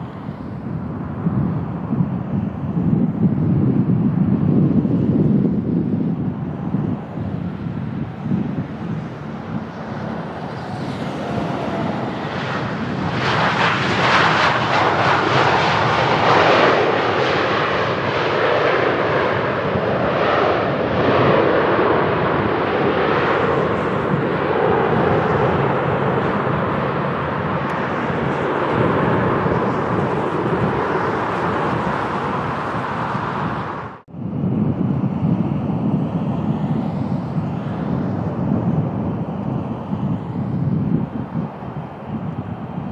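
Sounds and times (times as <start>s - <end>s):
jet airliner passing: 0.0s - 42.9s
wind rumble on microphone: 0.0s - 42.9s.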